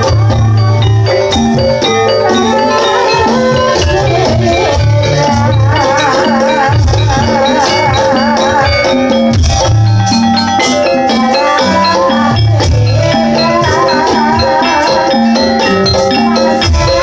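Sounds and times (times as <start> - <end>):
rattling jingling percussion: 0.0 - 17.0
tuned metal percussion: 0.0 - 17.0
wavering high melody: 0.0 - 17.0.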